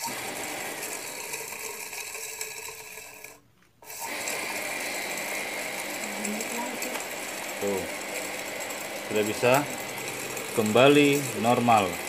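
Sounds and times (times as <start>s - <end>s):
electric water pump whirring: 0.0s - 12.0s.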